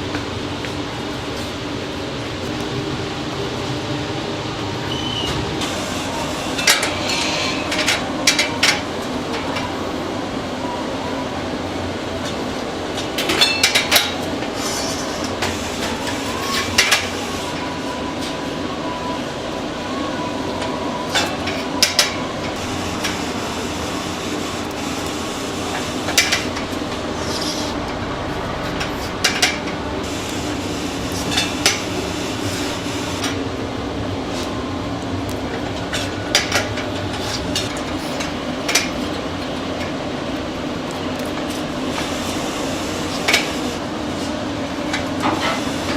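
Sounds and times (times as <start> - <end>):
steady mechanical hum: 0.0 - 45.9.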